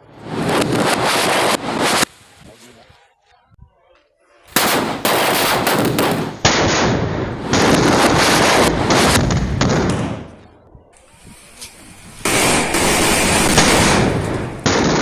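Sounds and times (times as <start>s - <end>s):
firecrackers crackling: 0.1s - 2.4s, 4.5s - 15.0s.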